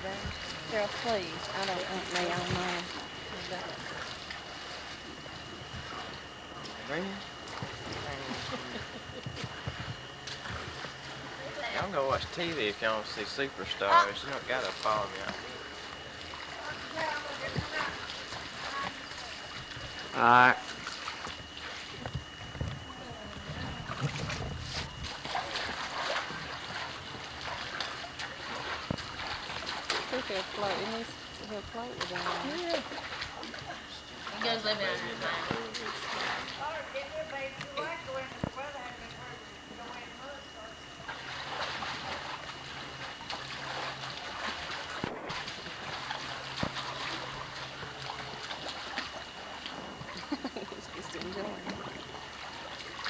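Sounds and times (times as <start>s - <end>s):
pool water splashing: 0.0s - 53.0s.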